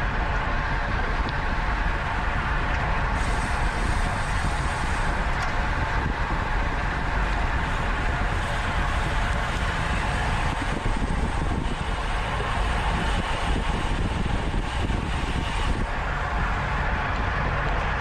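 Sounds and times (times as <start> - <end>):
low wind buffeting: 0.0 - 18.0
wind and road rush on microphone: 0.0 - 18.0.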